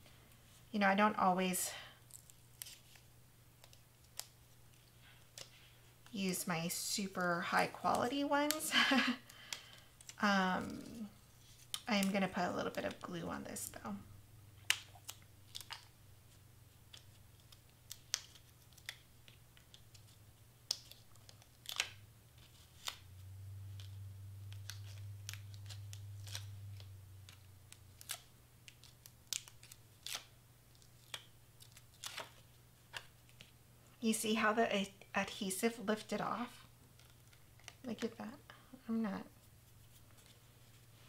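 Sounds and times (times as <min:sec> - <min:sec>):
faint low hum: 0:00.0 - 0:41.0.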